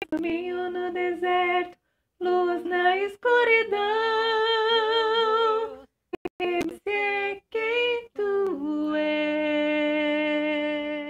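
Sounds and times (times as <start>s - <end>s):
woman singing a cappella: 0.0s - 11.0s.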